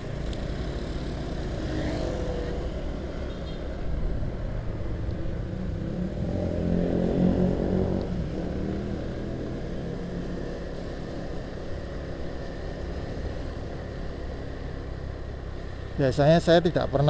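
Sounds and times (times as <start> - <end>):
motor scooter engine: 0.0 - 16.0
road noise: 0.0 - 17.0.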